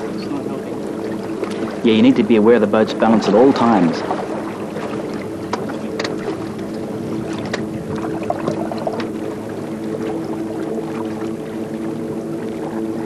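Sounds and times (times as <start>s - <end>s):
low hum of held tones: 0.0s - 13.0s
water splashing around kayak hull: 0.0s - 13.0s.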